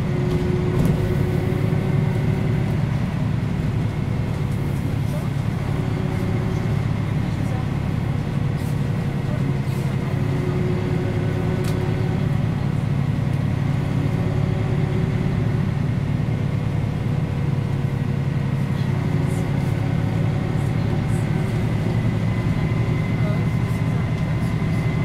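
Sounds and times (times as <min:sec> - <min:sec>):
bus diesel engine humming: 0:00.0 - 0:25.0.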